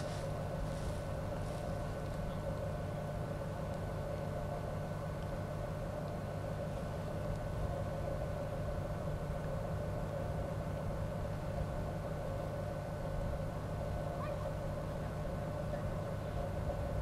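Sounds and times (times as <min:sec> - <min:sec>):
constant machinery whine: 0:00.0 - 0:17.0
ship engine machinery hum: 0:00.0 - 0:17.0.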